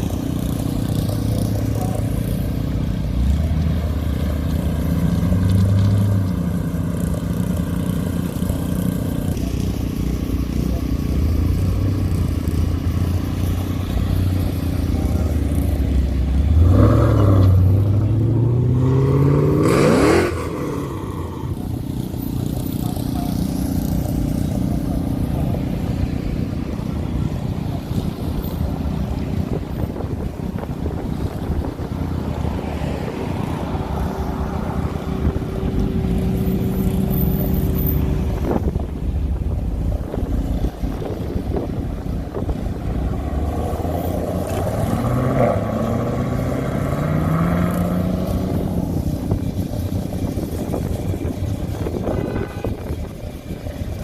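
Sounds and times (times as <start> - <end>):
car accelerating away: 0.0 - 26.1, 31.1 - 51.9
car engines rumbling past: 0.0 - 54.0.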